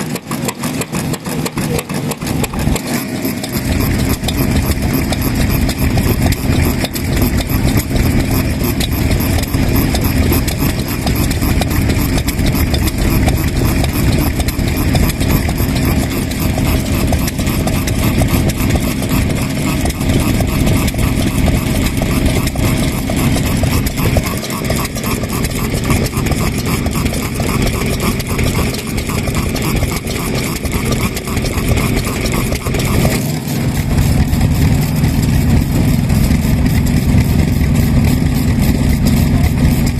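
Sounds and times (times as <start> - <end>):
stationary engines exhaust thumps: 0.0 - 39.9.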